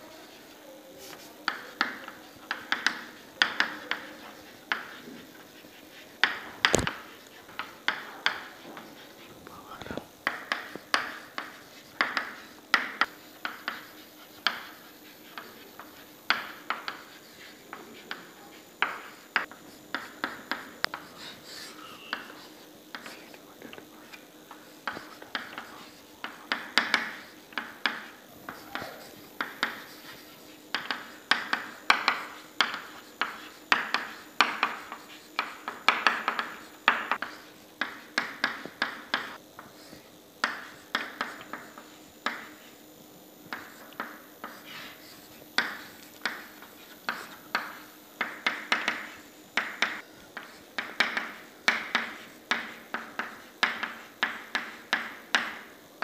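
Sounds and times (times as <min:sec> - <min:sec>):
chalk tapping on chalkboard: 0:00.0 - 0:42.8, 0:43.4 - 0:55.8.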